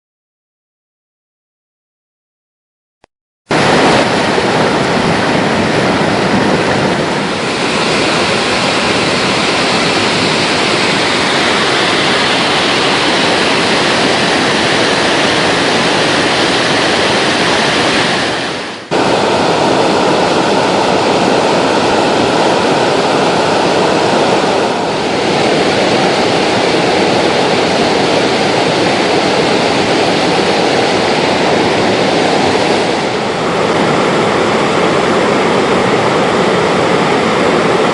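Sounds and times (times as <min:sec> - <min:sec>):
waterfall rushing: 0:03.5 - 0:37.9.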